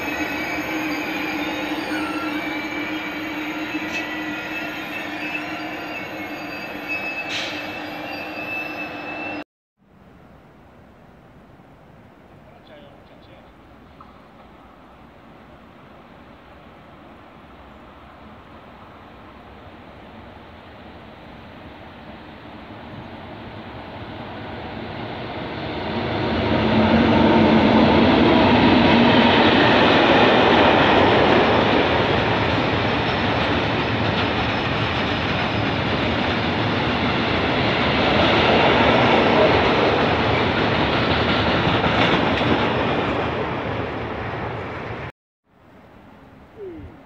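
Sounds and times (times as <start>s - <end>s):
freight train passing: 0.0s - 45.1s.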